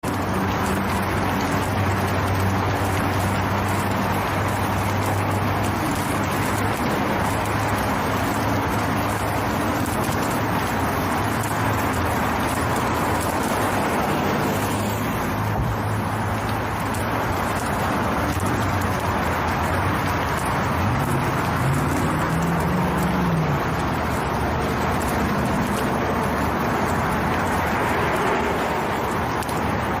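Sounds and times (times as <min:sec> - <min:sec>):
vehicle road and engine noise: 0:00.0 - 0:30.0.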